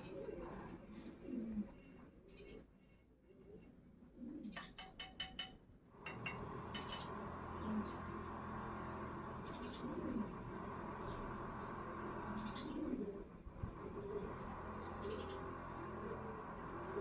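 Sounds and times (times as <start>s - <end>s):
pigeons cooing: 0.0s - 2.7s, 3.4s - 4.8s, 7.4s - 17.0s.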